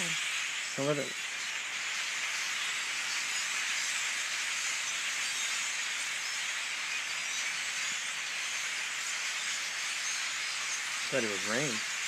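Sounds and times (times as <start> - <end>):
individual bird chirps: 0.0 - 12.0
large flock of birds chattering: 0.0 - 12.0.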